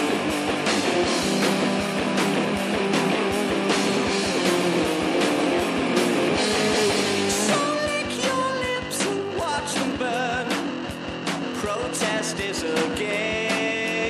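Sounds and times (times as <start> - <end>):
instrumental stoner rock: 0.0 - 14.0.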